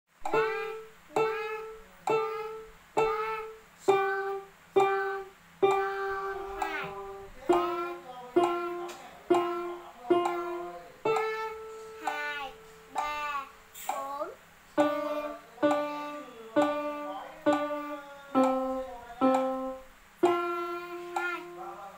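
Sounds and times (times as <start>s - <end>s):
electronic keyboard melody: 0.2s - 13.4s, 14.8s - 21.9s.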